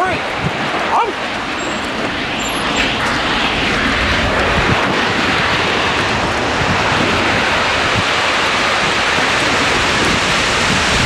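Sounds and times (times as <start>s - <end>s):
driving rain: 0.0s - 11.0s
tornado winds: 0.0s - 11.0s.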